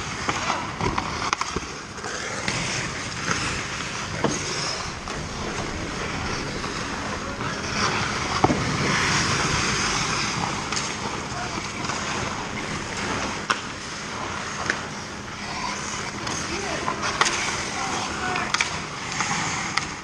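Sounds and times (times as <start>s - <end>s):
hockey sticks and puck clacking: 0.0s - 20.0s
skate blades scraping ice: 0.0s - 20.0s.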